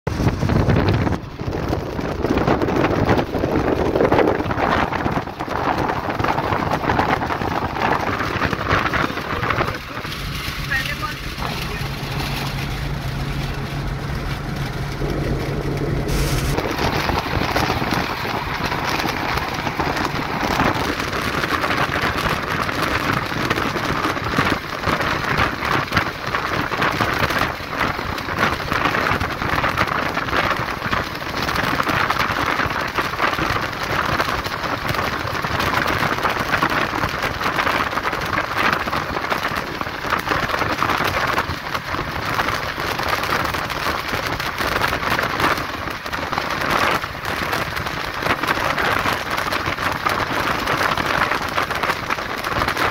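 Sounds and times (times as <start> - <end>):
wind and road noise: 0.0 - 52.9
low engine hum: 0.1 - 52.9.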